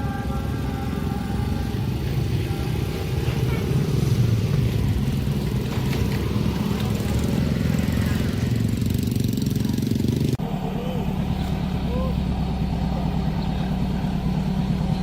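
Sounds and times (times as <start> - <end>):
passing train rumble: 0.0 - 15.0.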